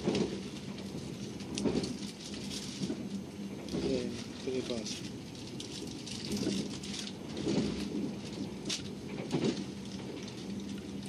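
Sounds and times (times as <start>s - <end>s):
constant low hum: 0.0s - 11.0s
train wheels rumbling and rattling: 0.0s - 11.0s.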